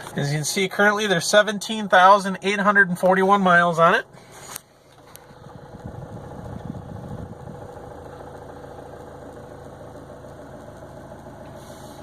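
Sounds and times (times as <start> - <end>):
diesel car engine idling: 0.0 - 12.0.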